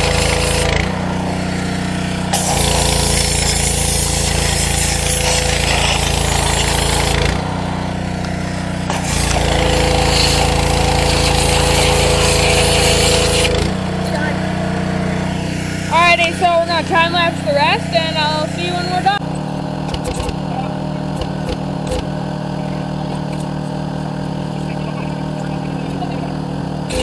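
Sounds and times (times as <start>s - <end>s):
pressure washer running: 0.0s - 27.0s
water spray on metal and concrete: 0.0s - 27.0s.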